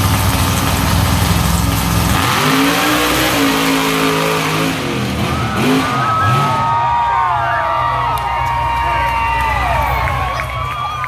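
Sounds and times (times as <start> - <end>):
monster truck engines racing: 0.0 - 11.0
arena crowd noise: 0.8 - 11.0.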